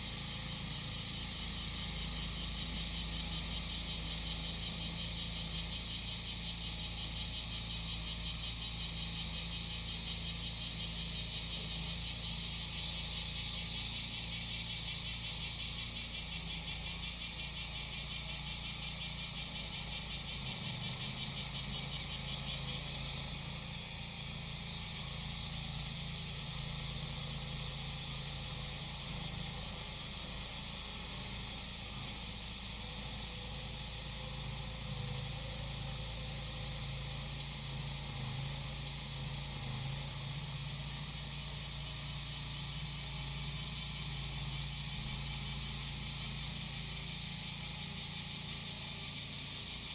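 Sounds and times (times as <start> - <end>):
cicadas buzzing: 0.0 - 49.9.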